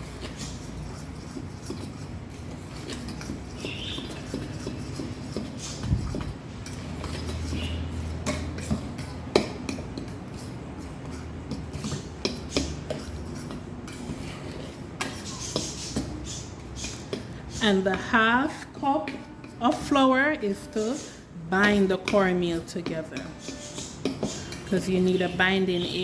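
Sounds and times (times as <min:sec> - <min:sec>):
clinks and scrapes against bowl: 0:00.0 - 0:25.9
utensil stirring dry mix in bowl: 0:00.0 - 0:26.0.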